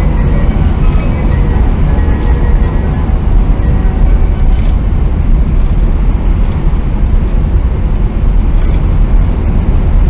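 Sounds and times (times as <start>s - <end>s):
train rumble inside passenger car: 0.0s - 10.0s.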